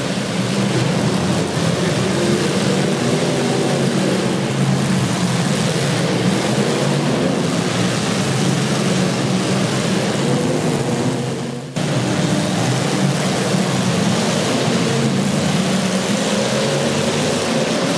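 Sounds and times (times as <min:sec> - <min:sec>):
car engines running hard: 0:00.0 - 0:17.9.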